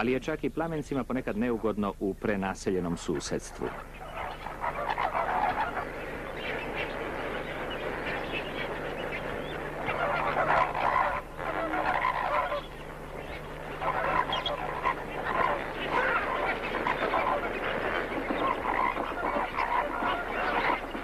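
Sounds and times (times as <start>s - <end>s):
flamingos honking and gabbling: 2.4s - 21.0s.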